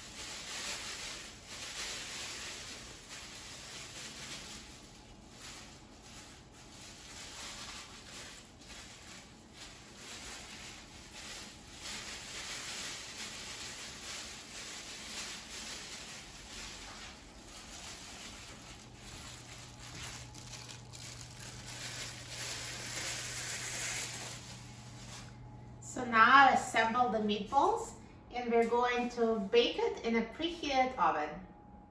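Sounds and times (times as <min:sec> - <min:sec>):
plastic gloves rustling: 0:00.0 - 0:25.8.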